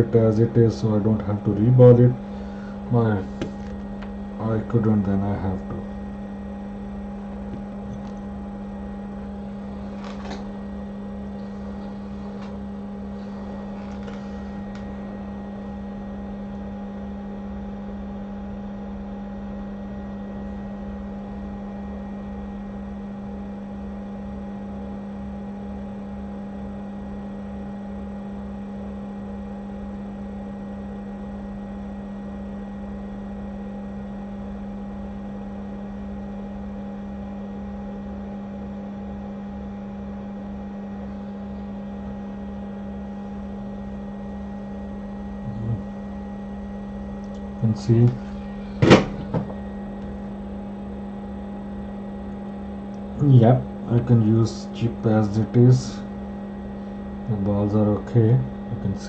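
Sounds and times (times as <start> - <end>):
electrical hum with fan rush: 0.0 - 59.0.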